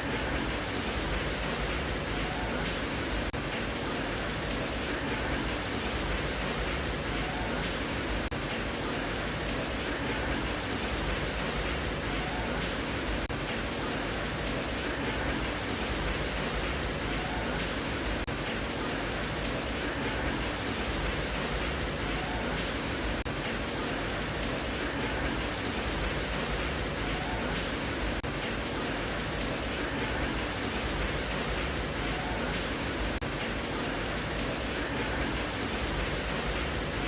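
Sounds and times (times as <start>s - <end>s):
steady rain hissing: 0.0s - 37.0s.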